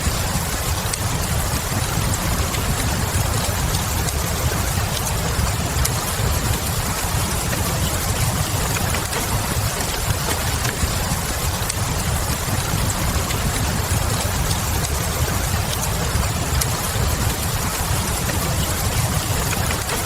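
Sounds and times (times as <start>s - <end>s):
burning wood crackling: 0.0s - 20.0s
fireplace low rumble: 0.0s - 20.0s
steady rain: 0.0s - 20.0s.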